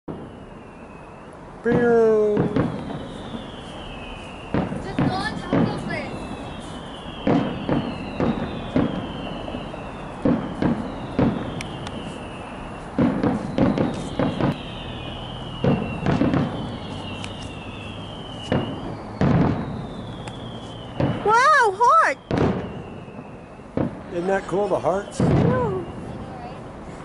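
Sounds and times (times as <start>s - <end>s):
fireworks whistling: 0.1s - 27.0s
firework shells booming: 1.6s - 26.6s.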